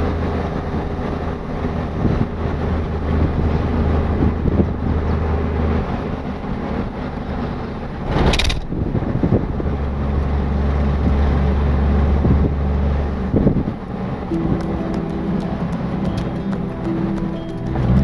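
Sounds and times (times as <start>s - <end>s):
road and tyre noise: 0.0s - 18.0s
truck engine hum: 0.0s - 18.0s.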